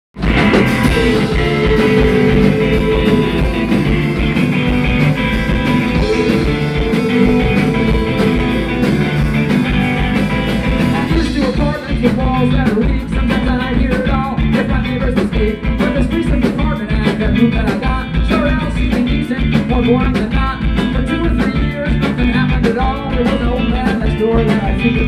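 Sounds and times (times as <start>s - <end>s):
live rock band with guitar: 0.1s - 25.0s.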